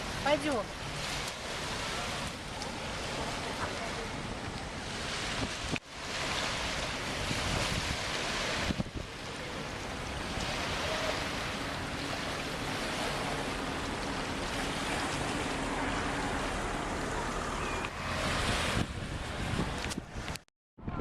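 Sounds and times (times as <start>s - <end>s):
sea surf: 0.0s - 20.4s
wind: 0.0s - 21.0s
wind buffeting microphone: 0.0s - 21.0s.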